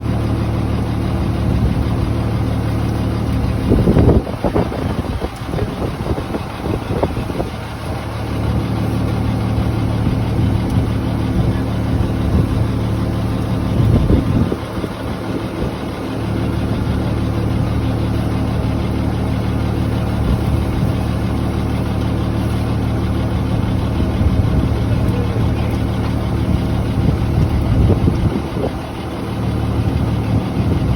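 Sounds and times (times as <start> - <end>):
truck engine humming: 0.0 - 30.9.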